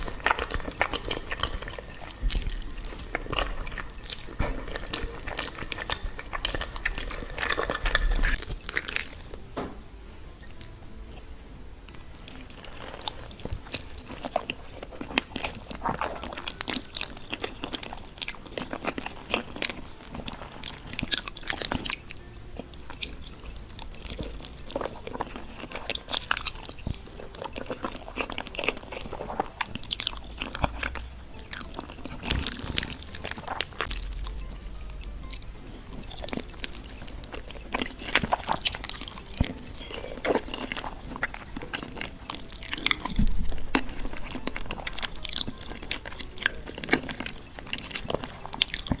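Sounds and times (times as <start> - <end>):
person chewing with wet mouth smacks: 0.0 - 9.4, 12.2 - 49.0.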